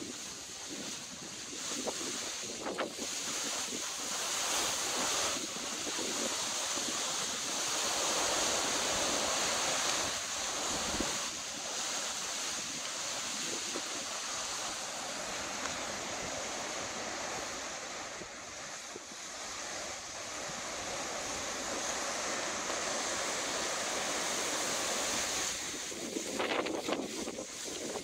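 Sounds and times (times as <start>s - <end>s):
strong wind through palm trees: 0.0s - 28.0s.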